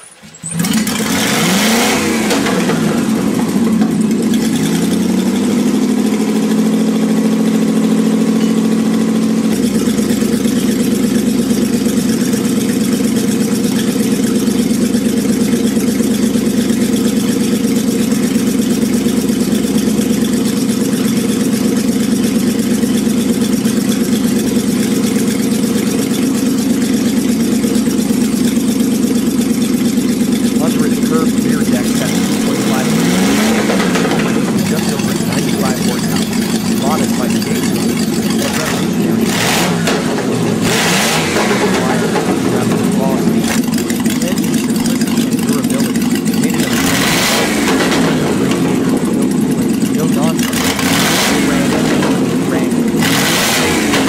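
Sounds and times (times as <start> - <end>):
car engine revving and idling: 0.0 - 54.0.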